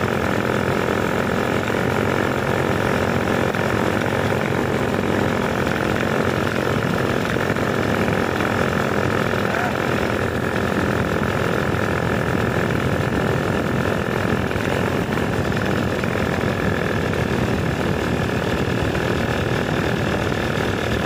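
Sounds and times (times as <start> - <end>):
paramotor engine droning: 0.0 - 21.0.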